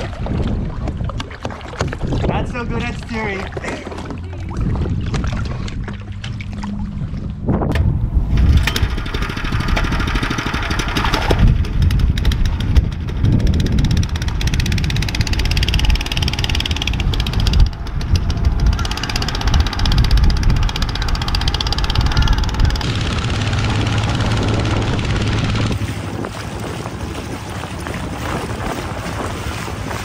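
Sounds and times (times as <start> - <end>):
outboard engine running: 0.0 - 30.0
water noise: 0.0 - 30.0
wind: 0.0 - 30.0.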